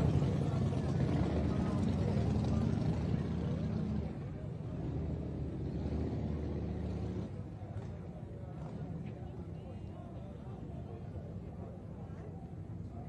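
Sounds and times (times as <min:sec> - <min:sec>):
crowd chatter: 0:00.0 - 0:13.0
motorcycle engines rumbling: 0:00.0 - 0:13.0.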